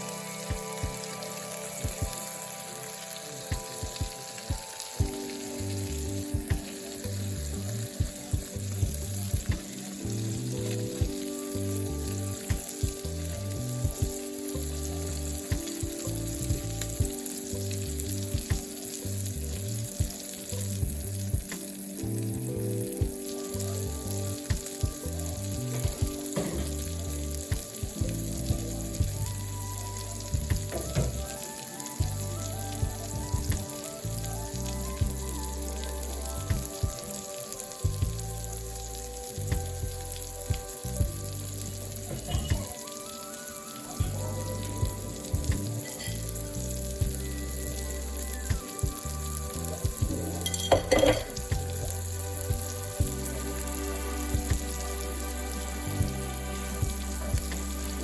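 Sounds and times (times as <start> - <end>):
instrumental music with bass: 0.0 - 42.8, 44.0 - 58.0
crackling hiss: 0.0 - 58.0.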